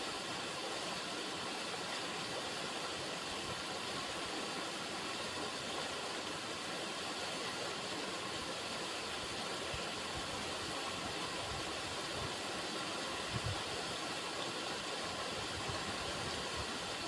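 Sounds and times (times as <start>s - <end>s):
river water running: 0.0s - 17.0s.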